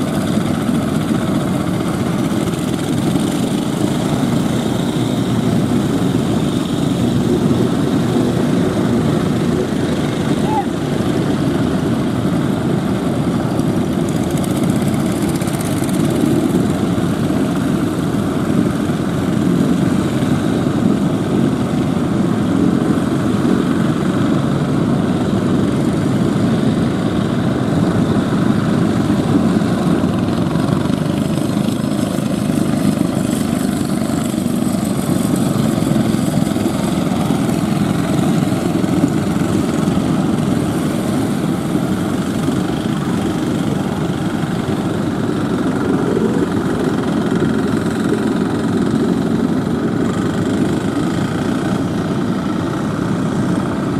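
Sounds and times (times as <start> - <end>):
boat engines running: 0.0 - 53.9.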